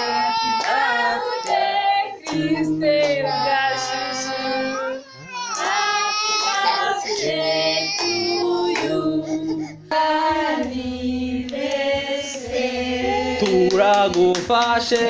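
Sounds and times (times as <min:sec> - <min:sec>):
group singing a celebration song: 0:00.0 - 0:15.0.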